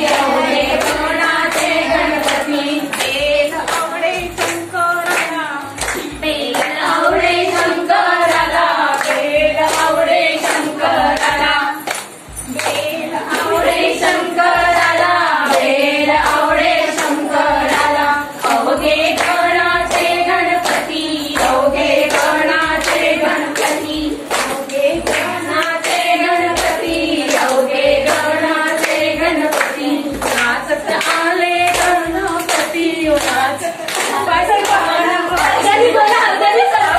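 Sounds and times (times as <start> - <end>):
hand claps: 0.0 - 36.9
women singing together: 0.0 - 36.9.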